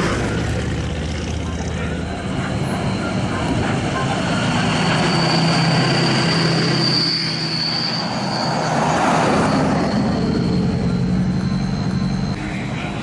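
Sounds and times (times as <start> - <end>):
truck engines running: 0.0 - 13.0
thin high-pitched whine: 1.4 - 13.0.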